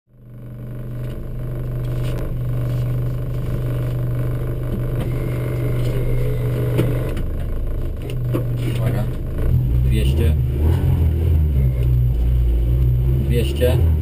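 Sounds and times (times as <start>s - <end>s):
car engine idling: 0.1s - 14.0s.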